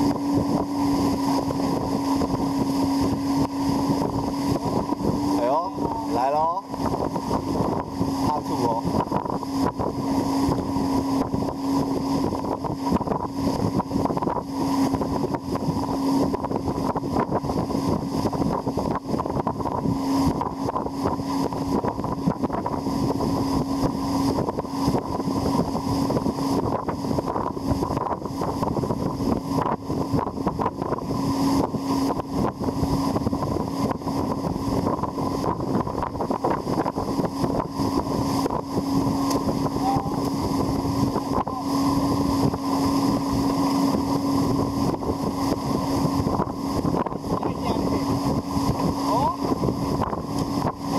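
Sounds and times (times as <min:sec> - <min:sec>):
motorboat engine running: 0:00.0 - 0:50.9
wind buffeting microphone: 0:00.0 - 0:50.9.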